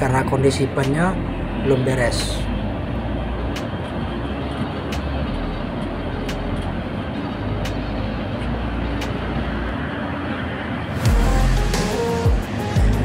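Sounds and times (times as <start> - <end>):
coach engine and road noise: 0.0 - 13.0.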